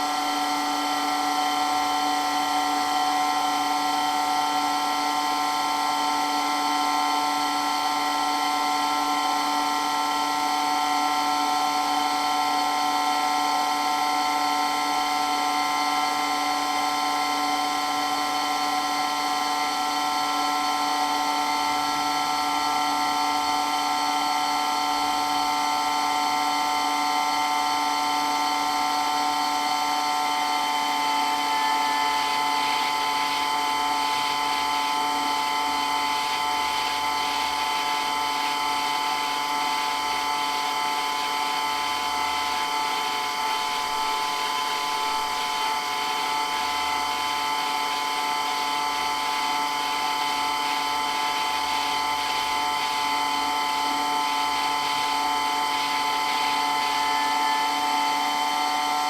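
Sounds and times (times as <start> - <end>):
water pump whining: 0.0 - 59.0.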